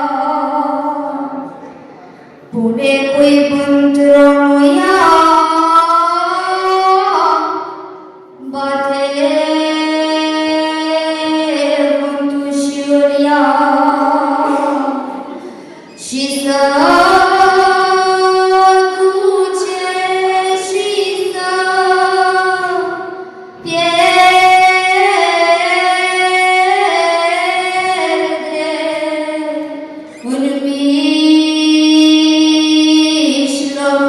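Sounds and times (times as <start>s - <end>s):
young woman singing: 0.0s - 1.5s, 2.5s - 7.8s, 8.4s - 15.3s, 15.9s - 34.0s.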